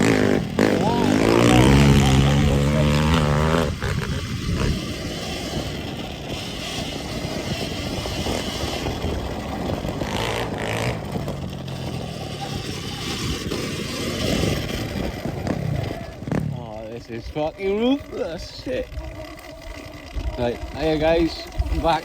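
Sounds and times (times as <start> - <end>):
electric dirt bike riding: 0.0 - 22.0
tyres on rough ground: 0.0 - 22.0.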